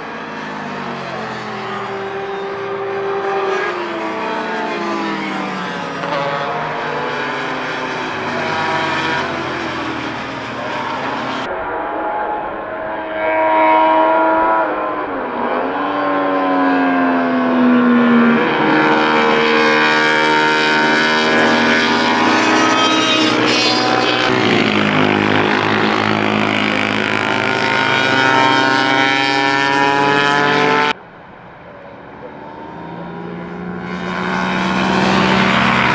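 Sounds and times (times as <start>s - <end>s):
racing motorcycles passing: 0.0s - 35.9s.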